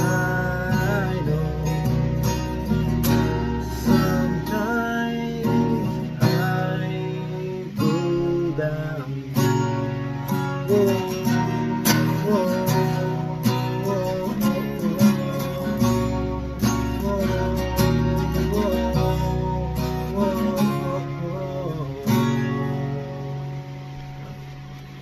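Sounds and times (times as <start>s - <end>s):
man singing: 0.0s - 23.6s
acoustic guitar strumming: 0.0s - 25.0s.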